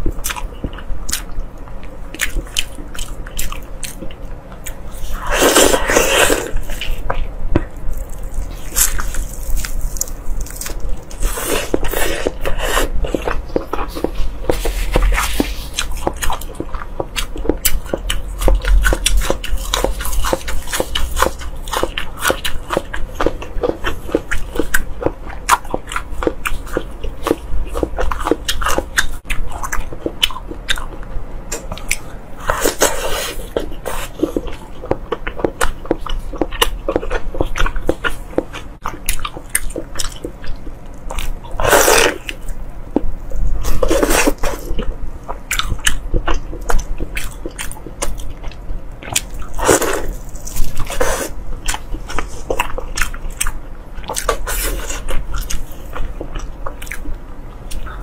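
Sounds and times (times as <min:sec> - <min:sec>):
chewing crisp food: 0:00.0 - 0:58.0.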